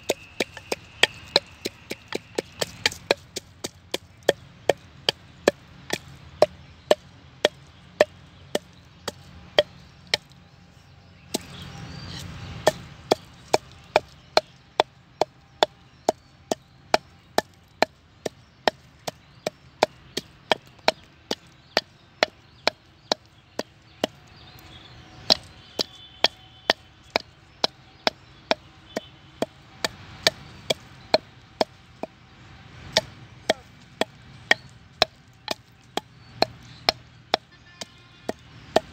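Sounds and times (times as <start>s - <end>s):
wooden pestle pounding in mortar: 0.0s - 10.4s, 11.3s - 38.9s.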